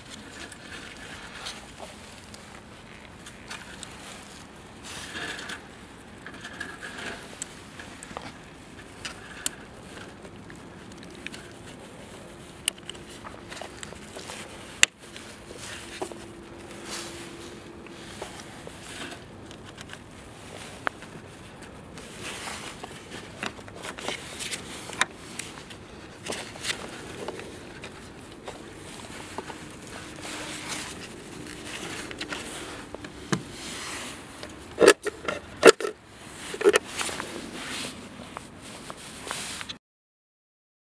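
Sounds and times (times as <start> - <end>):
low steady hiss: 0.0 - 39.7.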